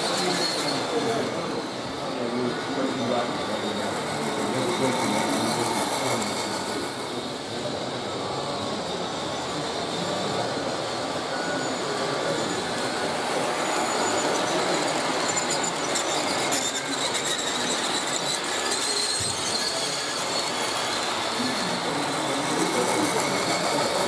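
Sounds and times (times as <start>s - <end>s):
high wheel squeal: 0.0s - 24.0s
model train wheels rolling: 0.0s - 24.0s.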